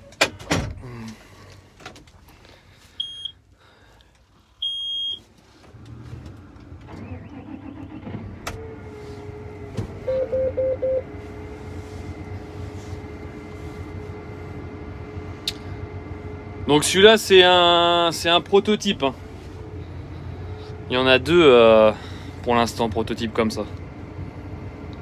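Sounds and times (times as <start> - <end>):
constant whine: 0.0 - 25.0.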